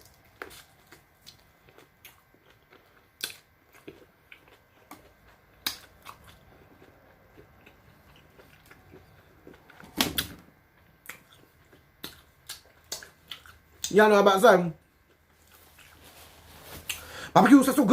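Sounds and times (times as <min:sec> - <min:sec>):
chewing and crunching: 0:00.0 - 0:09.9, 0:10.7 - 0:13.9, 0:14.8 - 0:17.1.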